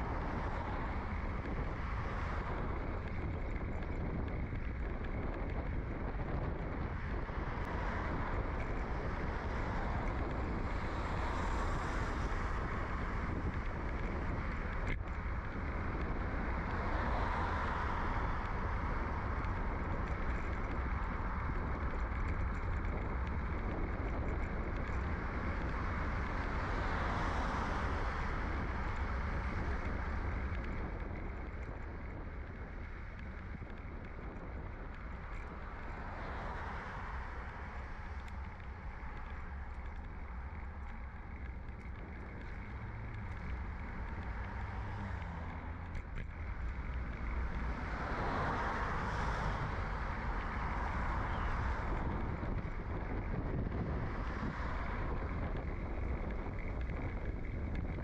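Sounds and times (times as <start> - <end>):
passing cars: 0.0 - 58.0
wind noise while cycling: 0.0 - 58.0.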